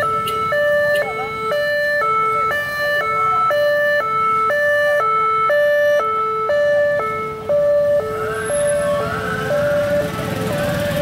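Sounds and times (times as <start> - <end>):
two-tone ambulance siren: 0.0 - 11.0.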